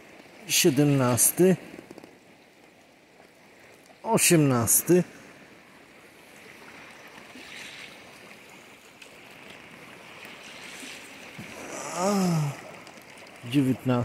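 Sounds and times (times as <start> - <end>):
sea surf on a beach: 0.0 - 14.0.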